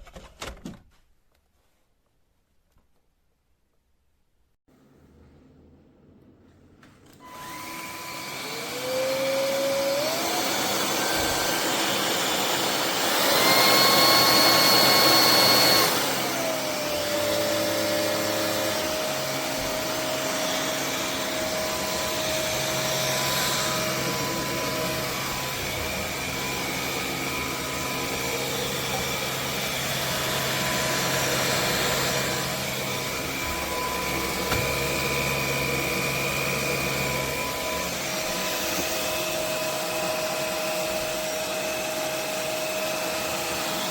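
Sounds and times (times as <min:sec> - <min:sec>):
stick vacuum cleaner running: 0:07.1 - 0:43.9.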